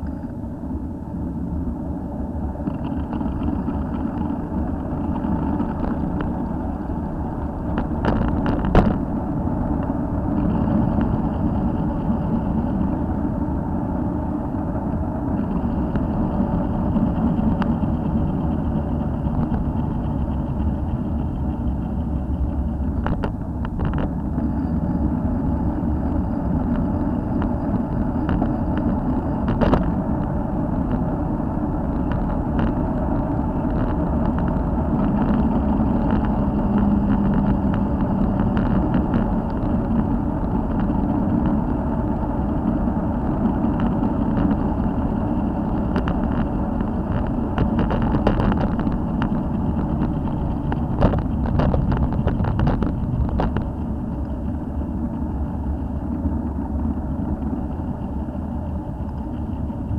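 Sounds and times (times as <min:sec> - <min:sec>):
car traffic: 0:00.0 - 0:59.9
wind rumble: 0:00.0 - 0:59.9
bicycle tyre noise: 0:02.4 - 0:59.9
bike rattling over bumps: 0:02.5 - 0:59.9.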